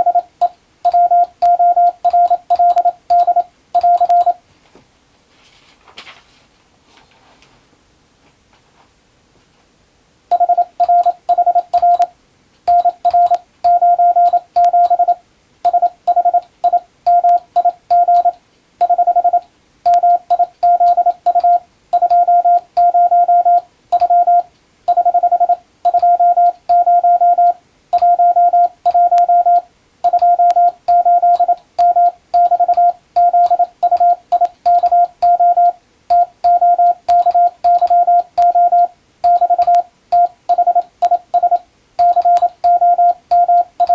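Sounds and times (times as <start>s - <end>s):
morse code tone: 0.0s - 4.4s, 10.3s - 12.1s, 12.7s - 43.9s
tone keying clicks: 0.0s - 4.4s, 10.3s - 12.1s, 12.7s - 27.4s, 28.0s - 43.9s.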